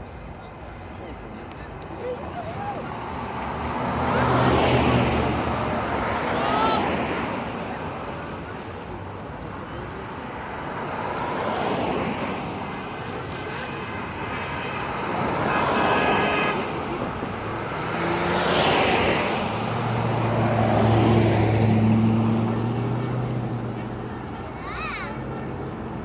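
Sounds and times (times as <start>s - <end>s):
cars driving past: 0.5s - 26.0s.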